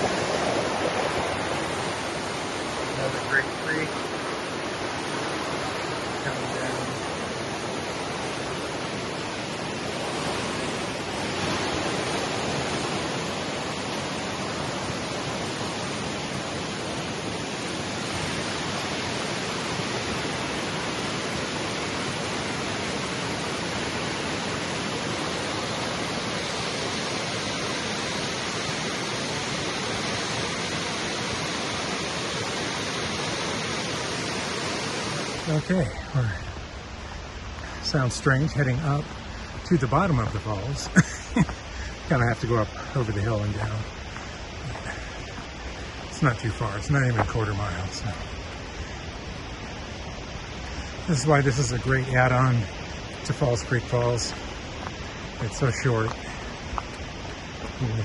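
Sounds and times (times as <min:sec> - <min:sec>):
waterfall rushing water: 0:00.0 - 0:58.0.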